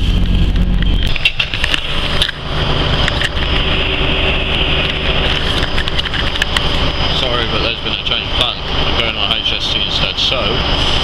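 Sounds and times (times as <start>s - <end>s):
train running noise: 0.0s - 11.0s.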